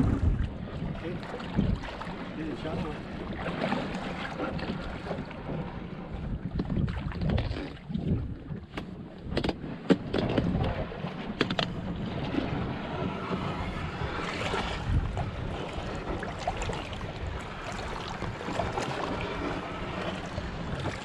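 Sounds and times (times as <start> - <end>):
water sloshing around boat: 0.0 - 21.0
wind buffeting microphone: 0.0 - 21.0.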